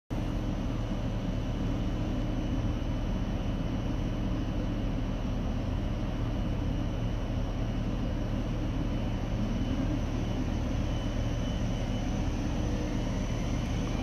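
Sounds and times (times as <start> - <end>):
electric train humming: 0.2 - 14.0.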